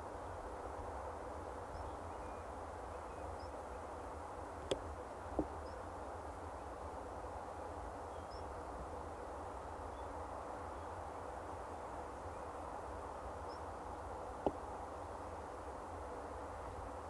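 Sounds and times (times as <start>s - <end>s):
outdoor hiss and rumble: 0.0s - 17.0s.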